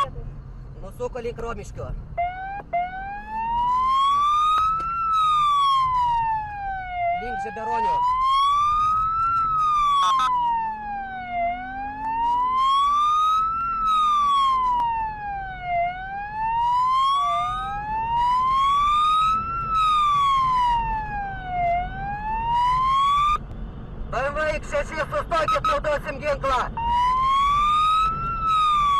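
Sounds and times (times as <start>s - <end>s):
road and engine noise: 0.0s - 28.9s
police siren wailing: 2.2s - 23.4s, 25.4s - 28.9s.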